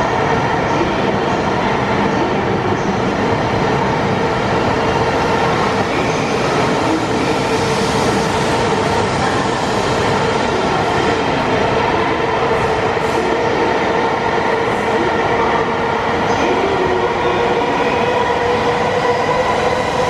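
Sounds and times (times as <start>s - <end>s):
high-speed train rushing past: 0.0s - 20.0s.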